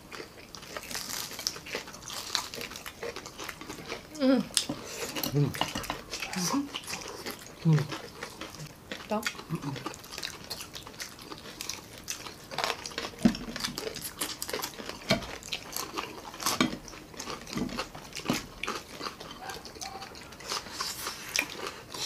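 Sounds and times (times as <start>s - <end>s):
people crunching and chewing: 0.0s - 22.0s.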